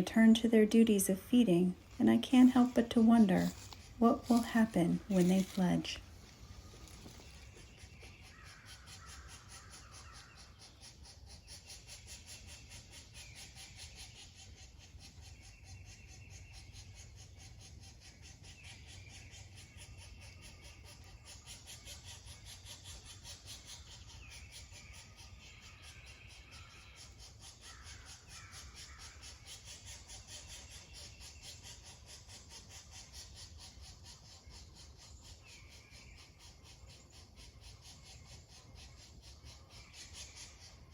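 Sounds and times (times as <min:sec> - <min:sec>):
raspy caw-like bird calls: 0:02.6 - 0:15.8, 0:16.4 - 0:40.9.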